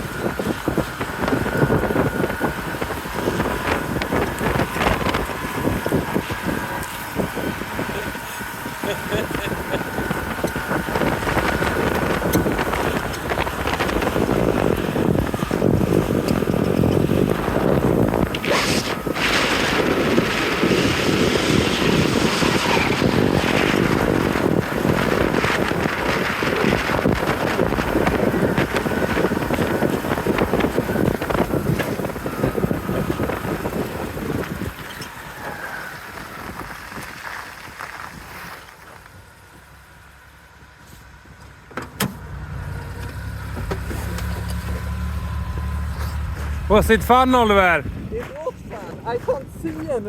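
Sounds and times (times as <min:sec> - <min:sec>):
wind buffeting microphone: 0:00.0 - 0:41.4, 0:42.6 - 0:50.0
lawn mower engine running: 0:00.0 - 0:48.1.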